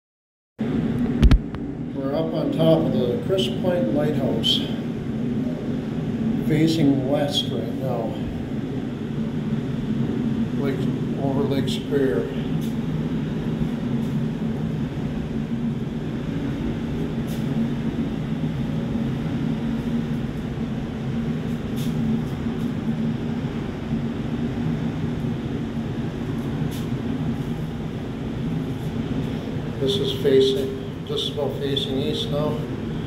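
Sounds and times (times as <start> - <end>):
low rumble of wind: 0.6 - 33.0.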